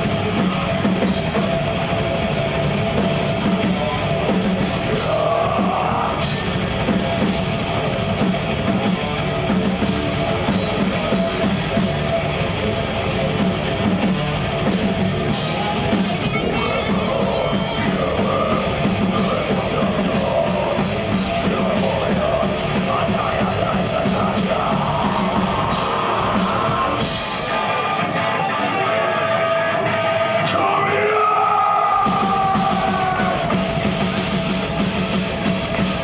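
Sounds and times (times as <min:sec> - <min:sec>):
distorted electric guitars: 0:00.0 - 0:36.0
drums: 0:00.0 - 0:36.0.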